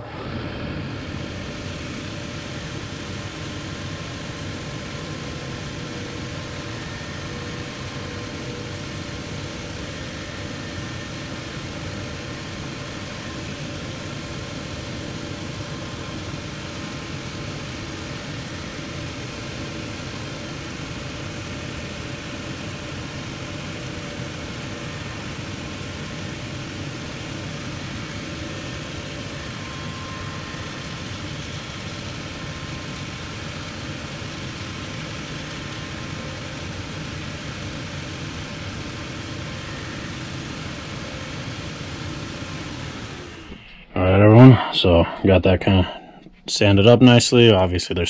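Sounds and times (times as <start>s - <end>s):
sanding belt machine running: 0.0s - 43.8s.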